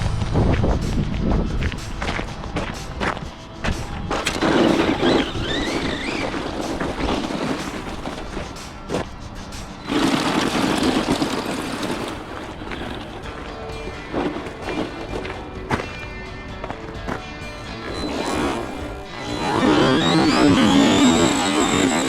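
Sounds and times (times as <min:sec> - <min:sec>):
tyres on ground: 0:00.0 - 0:22.0
rc truck motor whine: 0:01.8 - 0:15.7, 0:17.0 - 0:22.0.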